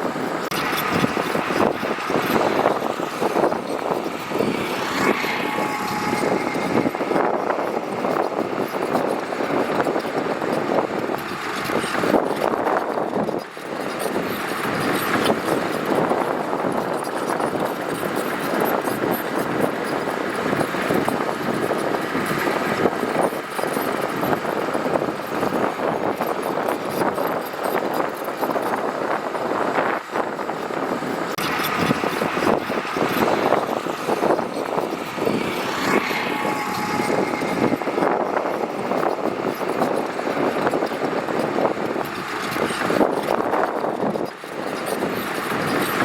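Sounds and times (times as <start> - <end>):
diesel engine running: 0.0 - 46.0
rough machinery clatter: 0.0 - 46.0.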